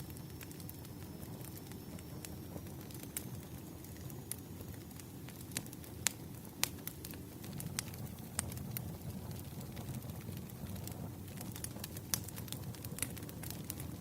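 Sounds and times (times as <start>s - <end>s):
firewood crackling and popping: 0.0s - 14.0s
rumble of flames: 0.0s - 14.0s.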